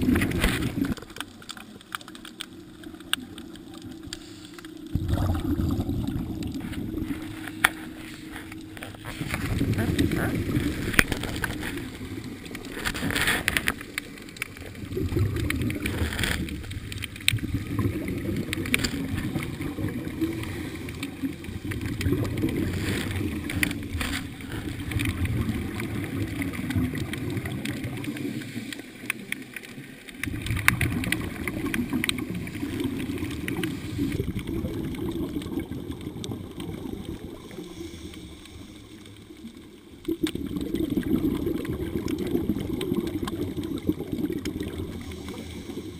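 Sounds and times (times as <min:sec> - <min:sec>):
underwater bubbles gurgling: 0:00.0 - 0:45.9.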